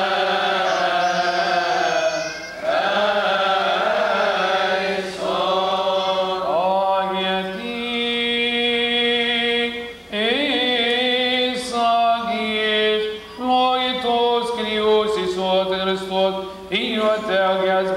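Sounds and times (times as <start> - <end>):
men chanting a hymn: 0.0 - 17.9.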